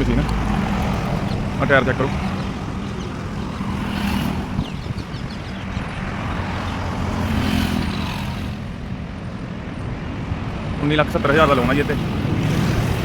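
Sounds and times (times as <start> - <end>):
engine rumbling: 0.0 - 13.0
outdoor background noise: 0.0 - 13.0.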